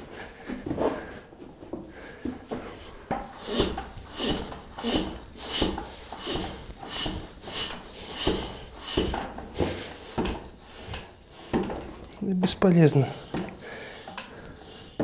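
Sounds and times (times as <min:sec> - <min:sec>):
floor pump strokes with air hiss: 0:00.0 - 0:15.0.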